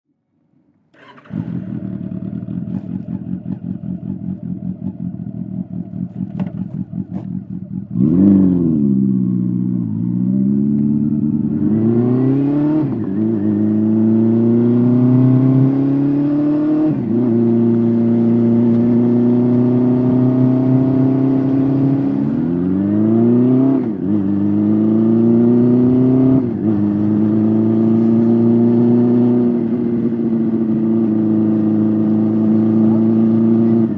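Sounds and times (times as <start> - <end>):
motorcycle engine revving: 0.9 - 33.9.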